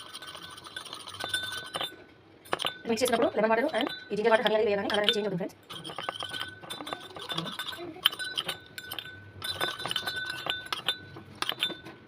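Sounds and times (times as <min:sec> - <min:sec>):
spoon clinking in container: 0:00.0 - 0:12.0.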